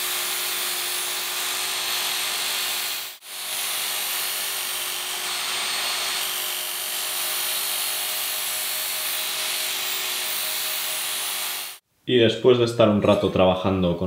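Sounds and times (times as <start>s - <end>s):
abrasive belt grinding knife: 0.0s - 11.8s
belt sharpener motor hum: 0.0s - 11.8s.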